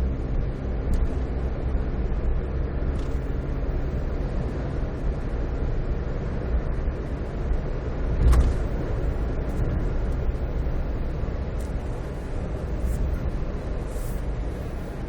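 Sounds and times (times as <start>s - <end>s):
car engine running: 0.0s - 15.0s
tyre and road noise: 0.0s - 15.0s.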